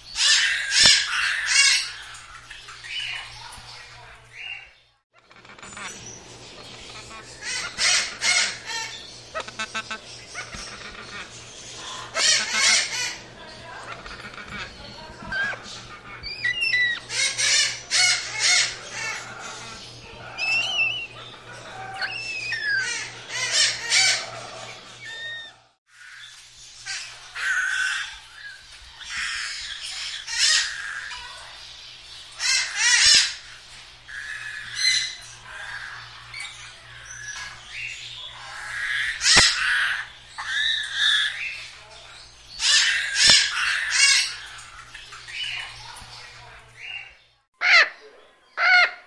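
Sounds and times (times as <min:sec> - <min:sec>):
parrot squawking and chirping: 0:00.1 - 0:04.6, 0:05.3 - 0:49.0.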